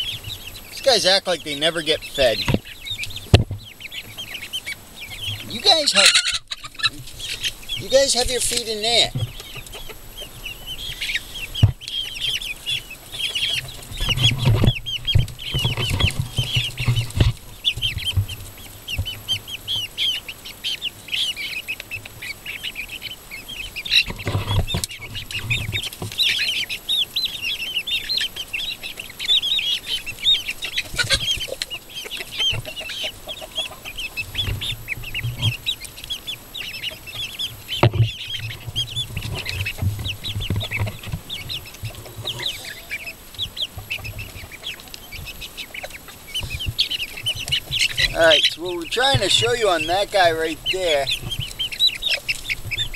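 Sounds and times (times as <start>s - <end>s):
chicks peeping: 0.0s - 52.9s.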